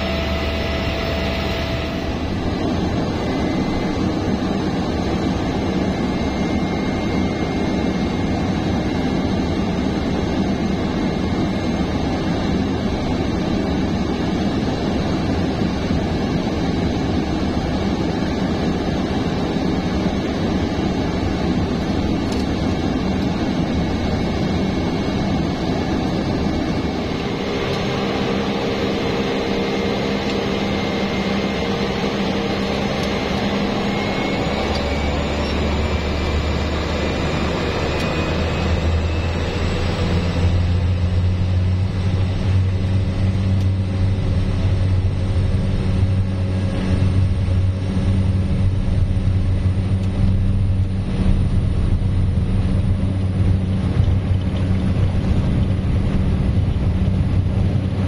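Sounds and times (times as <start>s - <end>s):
deeper drone: 0.0s - 58.0s
rising whine: 0.0s - 58.0s
turboprop engine and propeller drone: 0.0s - 58.0s.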